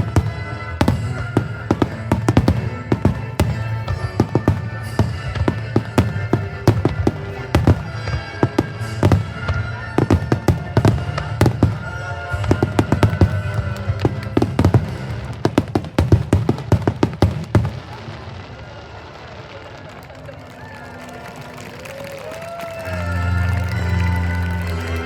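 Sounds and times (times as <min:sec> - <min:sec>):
music: 0:00.0 - 0:17.8, 0:21.4 - 0:25.0
fireworks bangs and crackles: 0:00.0 - 0:25.0.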